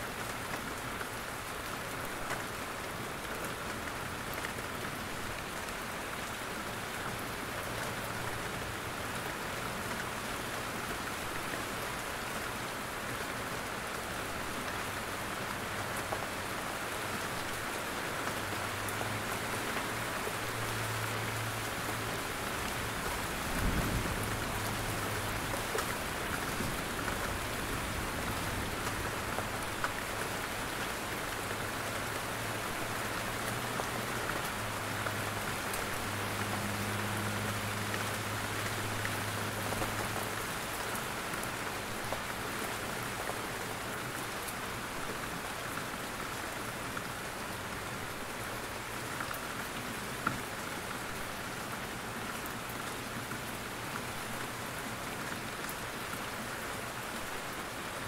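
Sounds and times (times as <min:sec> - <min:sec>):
steady rain in forest: 0:00.0 - 0:58.0.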